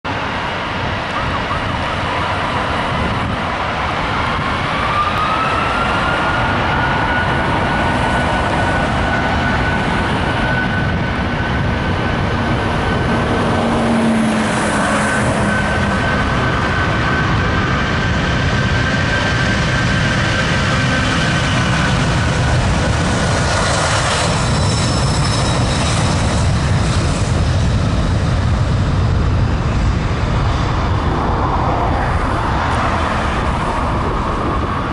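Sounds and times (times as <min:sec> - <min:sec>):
jet engines roaring at takeoff: 0:00.0 - 0:34.9
jet engine whine rising: 0:00.1 - 0:34.9.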